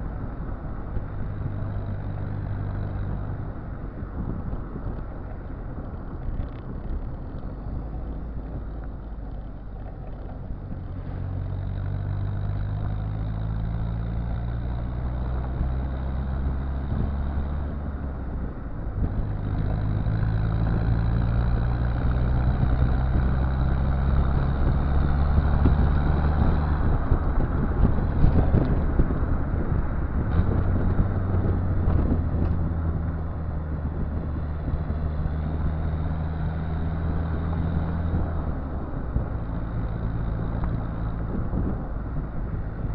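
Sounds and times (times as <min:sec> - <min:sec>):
diesel car engine exhaust: 0:00.0 - 0:42.9.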